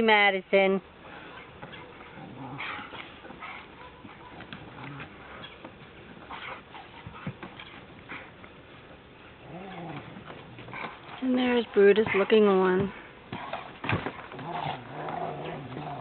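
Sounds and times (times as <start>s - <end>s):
dogs snuffling breaths: 1.0s - 16.0s
dogs growling: 1.3s - 8.4s, 9.3s - 16.0s.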